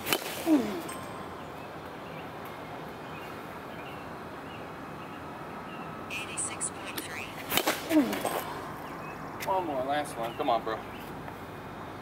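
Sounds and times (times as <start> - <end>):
open field background noise: 0.0 - 12.0.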